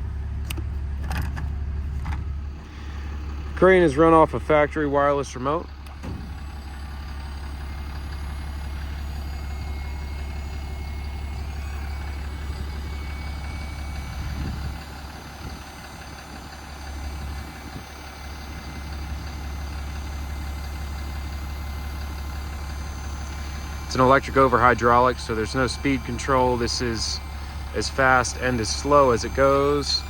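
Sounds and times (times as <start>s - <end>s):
hydraulic pump humming: 0.0s - 30.0s.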